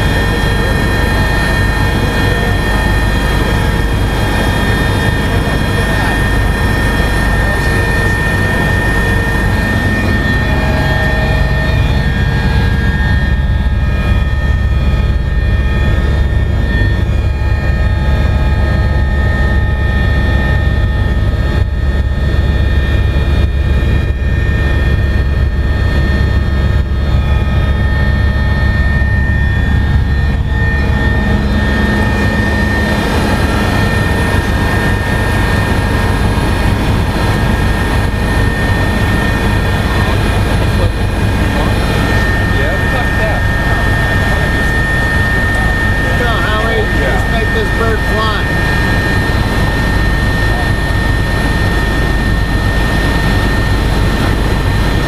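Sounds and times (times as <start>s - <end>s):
helicopter low rumble: 0.0s - 55.0s
helicopter turbine whine: 0.0s - 55.0s.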